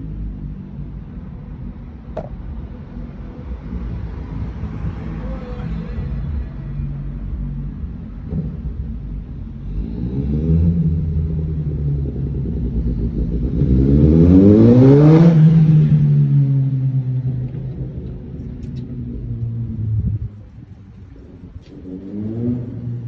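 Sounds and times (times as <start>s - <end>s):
car engine accelerating: 2.2s - 23.0s.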